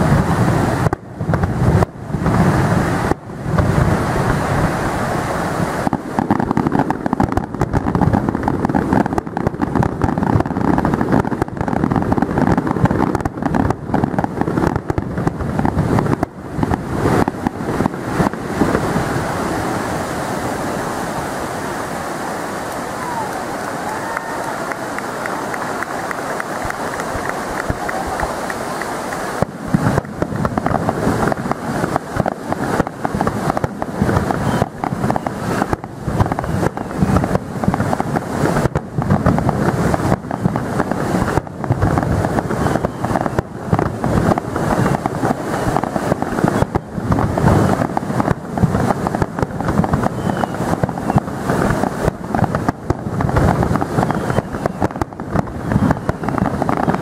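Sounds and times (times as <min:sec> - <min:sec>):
fireworks bursting with bangs and crackles: 0:00.0 - 0:57.0
steady background hiss: 0:00.0 - 0:57.0.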